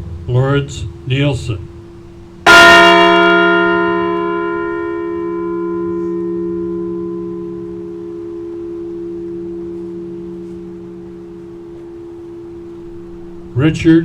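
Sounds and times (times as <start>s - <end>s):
large bell tolling: 0.0s - 14.0s.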